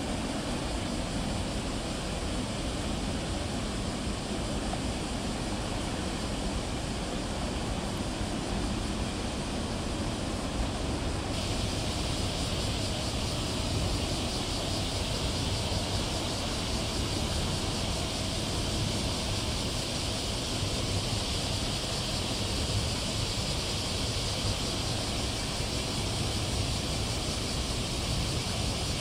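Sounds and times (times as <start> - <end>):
even hiss: 0.0 - 29.0
higher steady hiss: 0.0 - 29.0.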